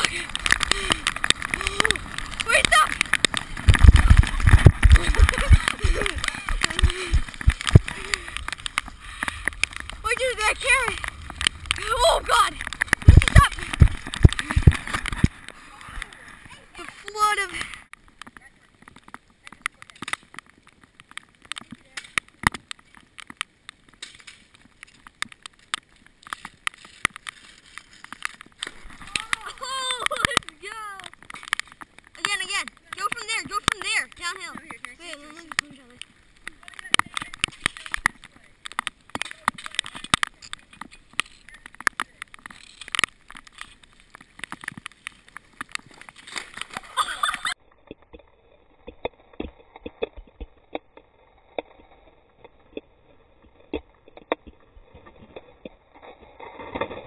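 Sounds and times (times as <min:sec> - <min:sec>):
scooter clicking and rattling: 0:00.0 - 0:48.2
raindrops tapping on camera: 0:00.0 - 0:57.0.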